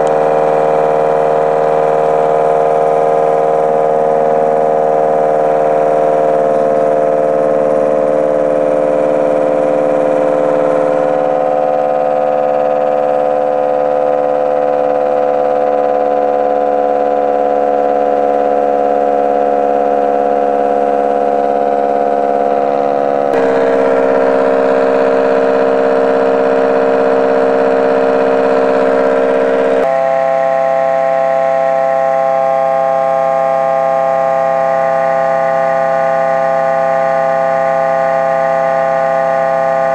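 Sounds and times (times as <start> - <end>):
pulse motor whining hum: 0.0 - 39.9.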